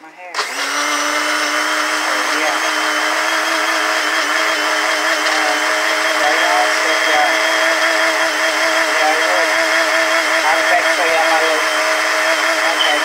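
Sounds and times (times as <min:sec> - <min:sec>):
blender running: 0:00.3 - 0:13.0.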